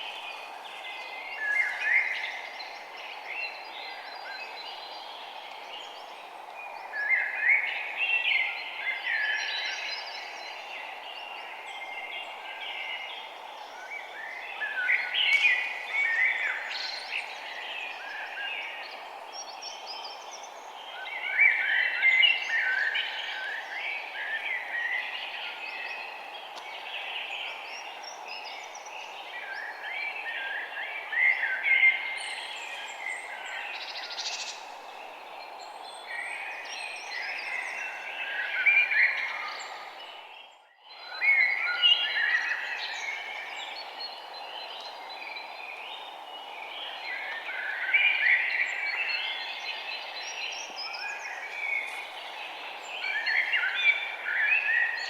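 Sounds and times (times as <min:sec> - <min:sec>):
small birds chirping: 0:00.0 - 0:55.0
steady background hiss: 0:00.0 - 0:55.0.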